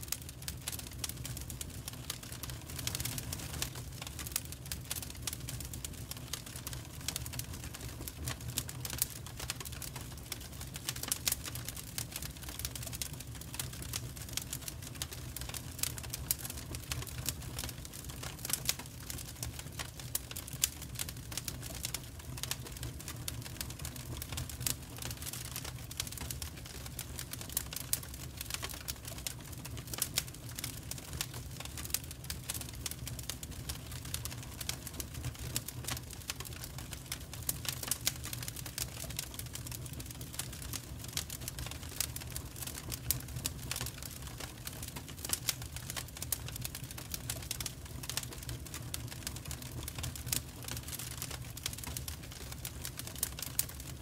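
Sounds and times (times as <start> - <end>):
low steady fire rumble: 0.0 - 54.0
wood fire crackling and popping: 0.0 - 54.0.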